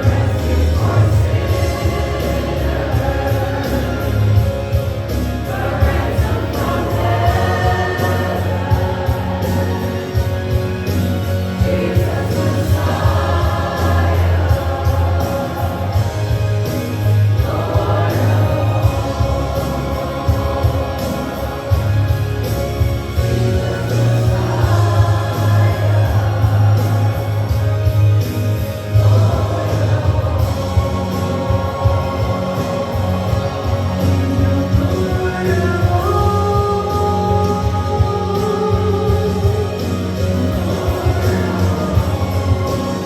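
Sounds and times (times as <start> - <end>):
choir singing gospel song: 0.0 - 43.0
instrumental backing with heavy bass: 0.0 - 43.0.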